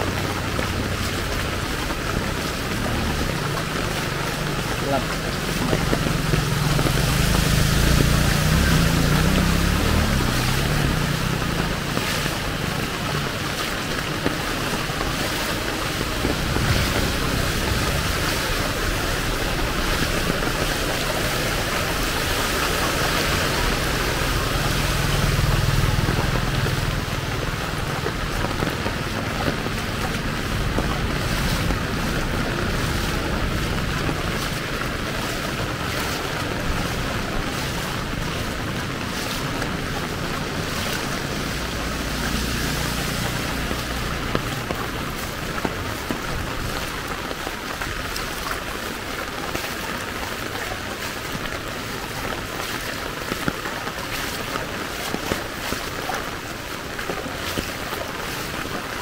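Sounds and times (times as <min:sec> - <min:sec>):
heavy rain falling: 0:00.0 - 0:59.0
passing traffic rumble: 0:00.0 - 0:59.0.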